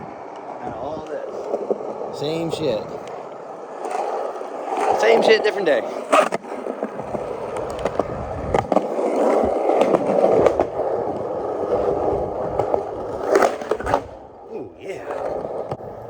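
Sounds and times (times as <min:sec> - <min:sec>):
skateboard clacks: 0:00.0 - 0:16.0
skateboard wheels rumbling: 0:00.0 - 0:16.0.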